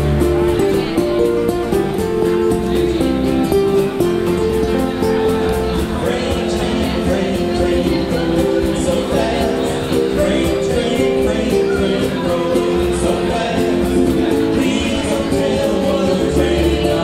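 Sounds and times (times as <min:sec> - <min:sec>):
ukuleles strummed together: 0:00.0 - 0:17.0.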